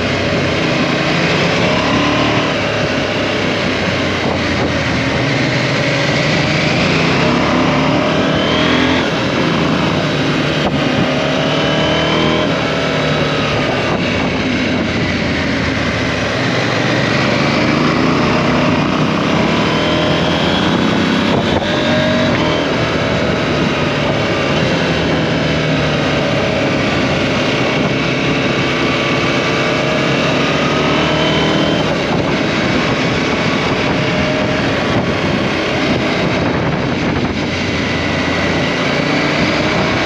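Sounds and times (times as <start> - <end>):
motorcycle engine revving: 0.0 - 40.0
wind and road noise: 0.0 - 40.0.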